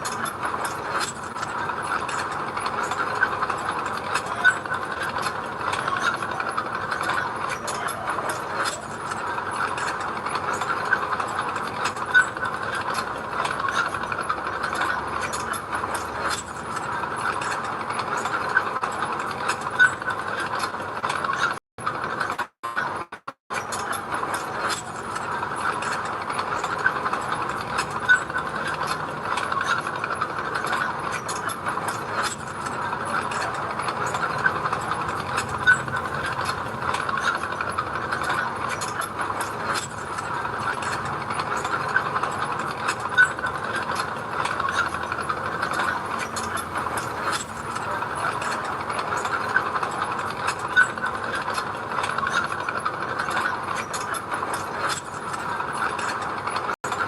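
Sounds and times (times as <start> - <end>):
metallic clicking and clanking: 0.0 - 57.0.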